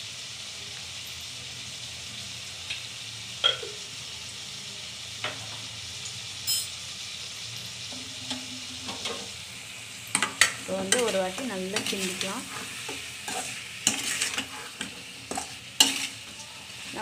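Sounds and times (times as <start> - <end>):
chicken frying in oil: 0.0 - 17.0.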